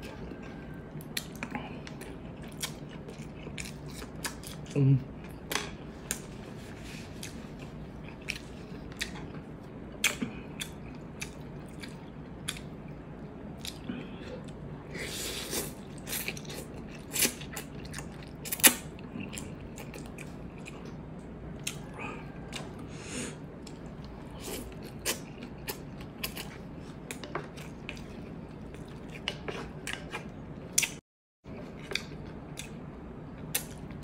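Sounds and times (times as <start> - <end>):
chewing noodles: 0.0 - 5.4, 6.0 - 14.6, 15.2 - 22.9, 23.5 - 31.0.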